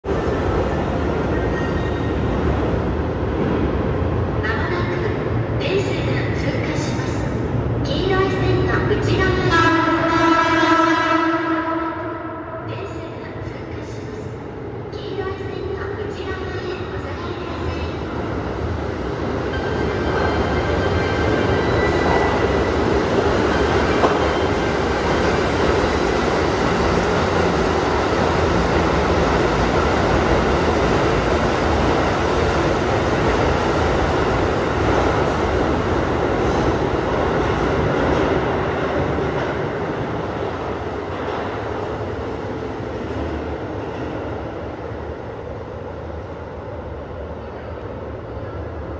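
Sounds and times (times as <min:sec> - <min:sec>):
electric train passing at speed: 0:00.0 - 0:48.9.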